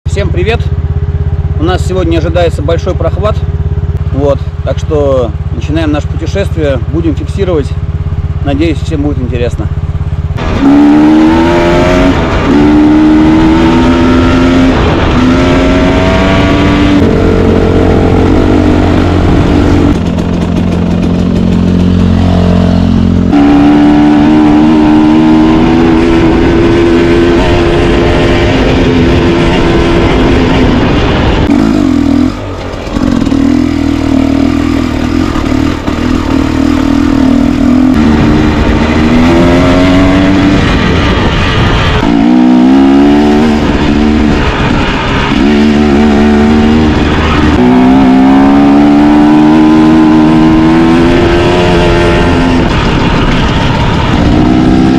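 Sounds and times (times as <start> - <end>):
motorcycle engine revving: 0.1 - 54.9.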